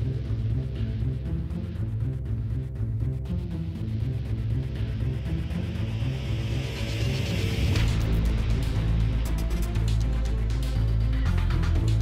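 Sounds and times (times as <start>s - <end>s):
music with heavy bass: 0.0s - 12.0s.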